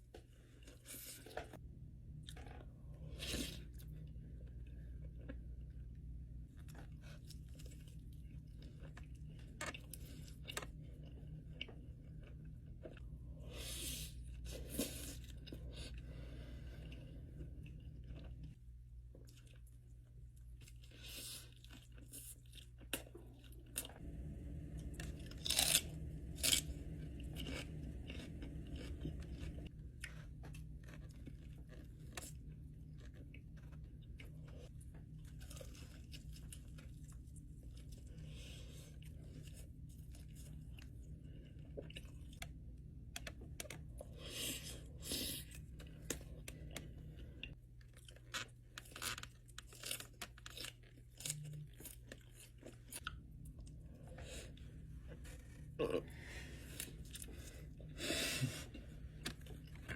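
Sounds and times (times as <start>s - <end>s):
crunching and chewing food: 0.0s - 59.9s
steady low hum: 0.0s - 59.9s.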